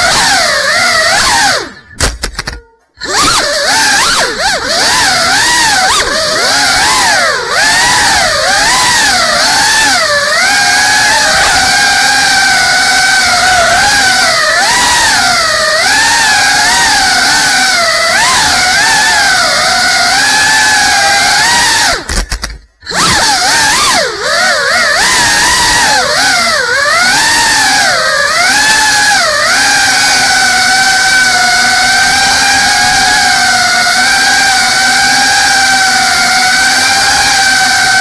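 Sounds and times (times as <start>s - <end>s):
drone motors whining: 0.0s - 38.0s.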